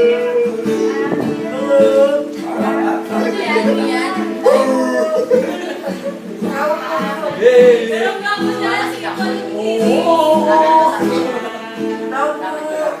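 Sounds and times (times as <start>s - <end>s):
held instrumental chords: 0.0s - 13.0s
person singing: 0.0s - 13.0s.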